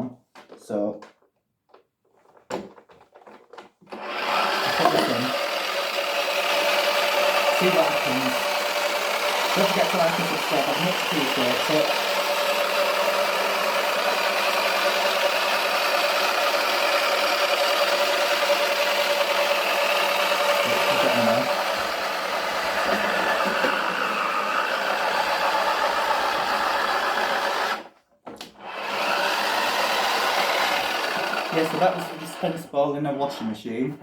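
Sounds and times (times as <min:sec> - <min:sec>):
small electric motor whining: 0:03.9 - 0:27.9, 0:28.6 - 0:32.6.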